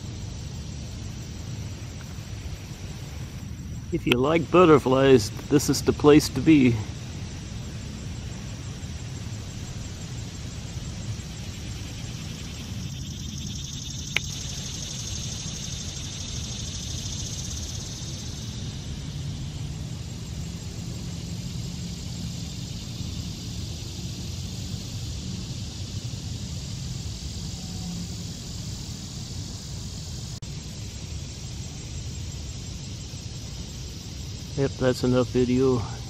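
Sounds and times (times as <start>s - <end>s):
high fine hiss: 0.0s - 36.0s
outdoor background rumble: 0.0s - 36.0s.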